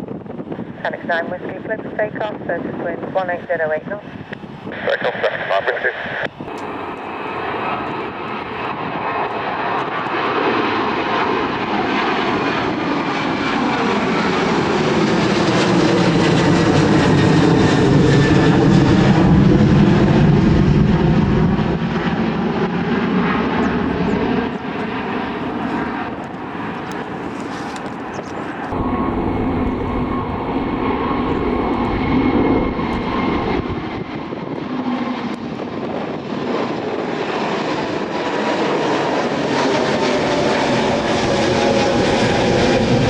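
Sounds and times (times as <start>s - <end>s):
jet airliner engines at takeoff: 0.0s - 43.0s.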